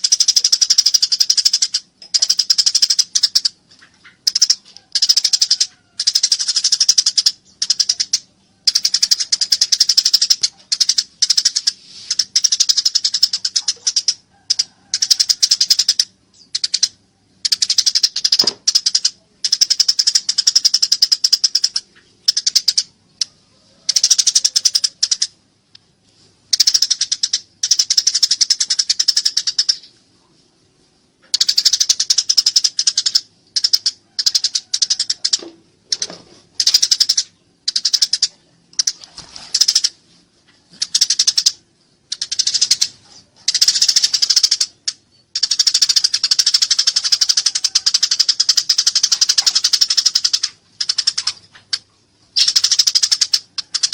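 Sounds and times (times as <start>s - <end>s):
sparrows chirping rapidly: 0.0s - 23.2s, 26.5s - 30.0s, 31.3s - 40.0s, 40.7s - 51.4s, 52.3s - 53.9s.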